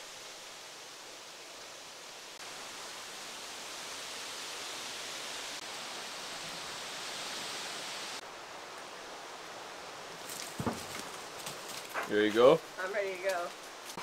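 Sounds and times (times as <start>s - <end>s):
outdoor ambient rushing hiss: 0.0s - 14.0s.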